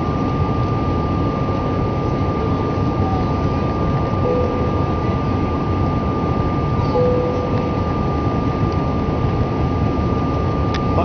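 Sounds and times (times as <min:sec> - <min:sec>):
aircraft cabin engine rush: 0:00.0 - 0:11.0
thin steady whine: 0:00.0 - 0:11.0.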